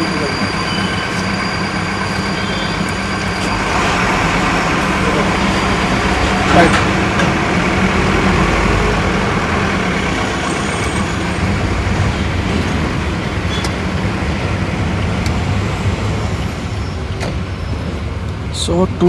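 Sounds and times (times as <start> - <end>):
road traffic noise: 0.0 - 19.0
vehicle engines humming: 0.0 - 19.0.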